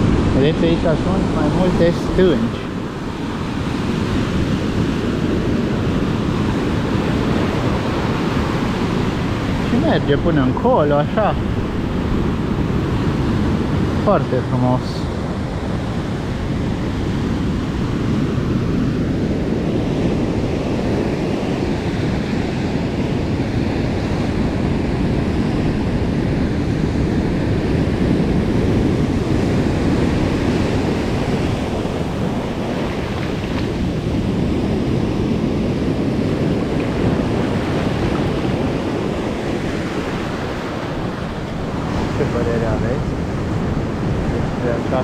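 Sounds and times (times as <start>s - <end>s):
sea surf washing onto beach: 0.0s - 45.0s
wind buffeting microphone: 0.0s - 45.0s.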